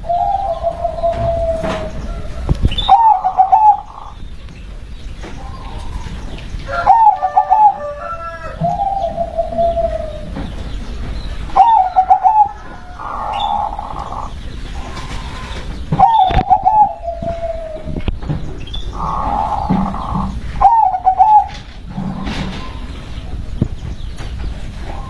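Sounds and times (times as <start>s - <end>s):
dove staccato cooing: 0.0s - 4.3s, 5.2s - 23.0s.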